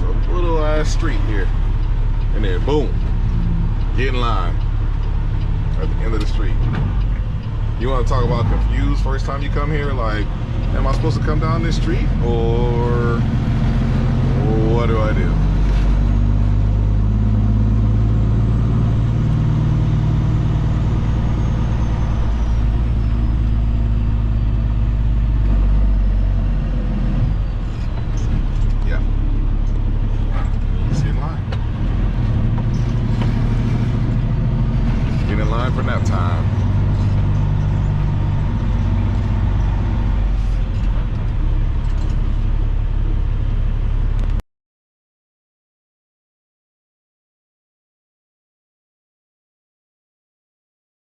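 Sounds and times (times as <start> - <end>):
diesel truck engine running: 0.0 - 44.4.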